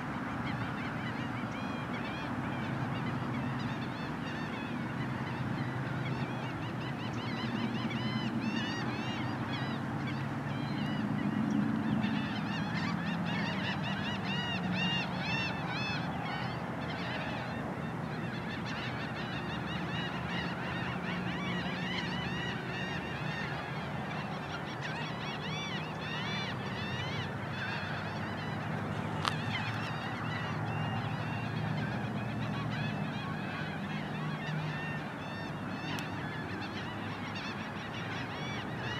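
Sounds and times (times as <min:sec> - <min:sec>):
flock of birds honking: 0:00.0 - 0:38.9.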